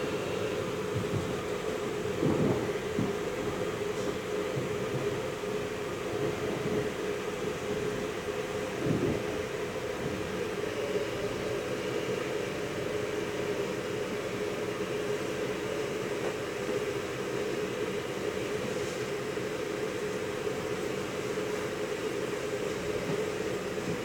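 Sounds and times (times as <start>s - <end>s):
train engine and wheels drone: 0.0s - 24.0s.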